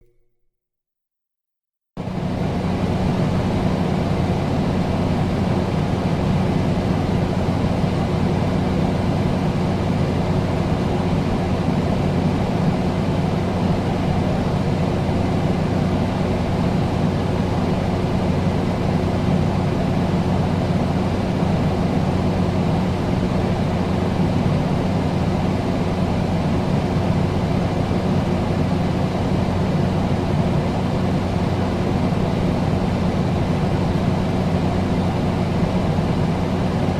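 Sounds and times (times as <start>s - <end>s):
air conditioner fan whooshing: 2.0s - 36.9s.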